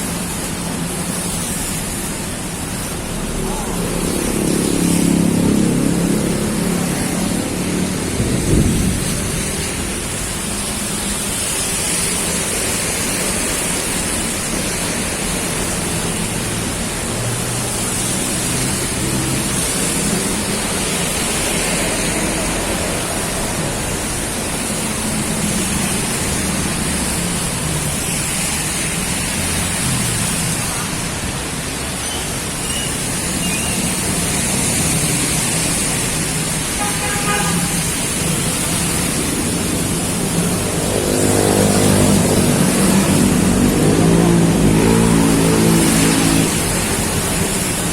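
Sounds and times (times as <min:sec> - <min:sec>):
heavy rain: 0:00.0 - 0:47.9
road traffic hum: 0:00.0 - 0:47.9.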